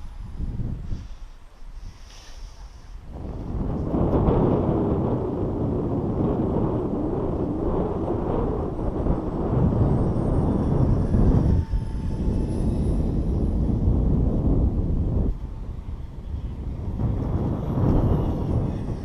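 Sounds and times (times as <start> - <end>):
electric ducted fans whining: 0.0 - 19.0
wind buffeting microphone: 0.0 - 19.0.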